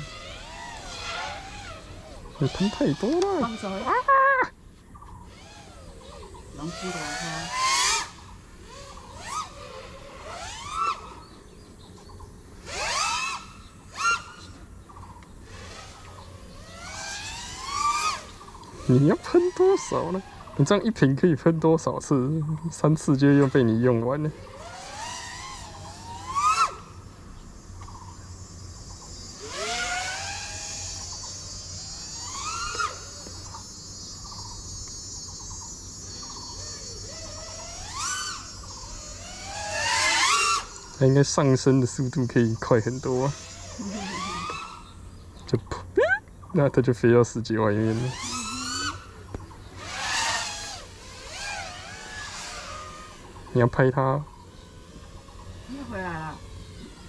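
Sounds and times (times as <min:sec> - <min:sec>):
drone motors revving: 0:00.0 - 0:57.0.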